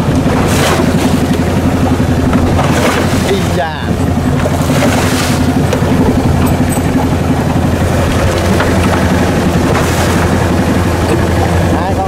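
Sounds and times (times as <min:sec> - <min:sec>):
boat engine droning: 0:00.0 - 0:12.0
water washing along hull: 0:00.0 - 0:12.0.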